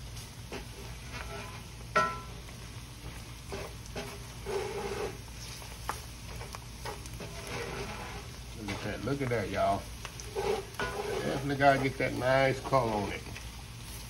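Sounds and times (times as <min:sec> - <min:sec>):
faint sizzle: 0:00.0 - 0:14.0
wooden spoon scraping skillet: 0:00.4 - 0:02.4, 0:03.0 - 0:14.0.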